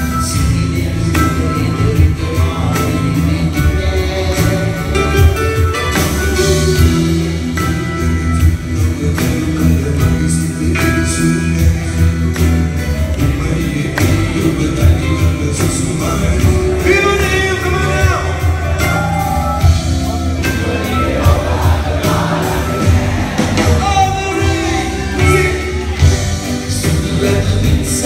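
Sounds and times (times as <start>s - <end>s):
man singing: 0.0s - 19.6s, 20.3s - 28.0s.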